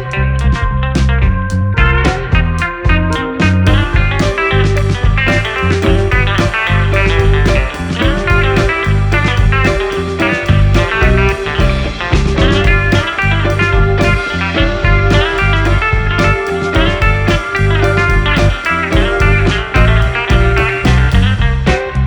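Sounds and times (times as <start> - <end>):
blues-rock music: 0.0 - 22.0.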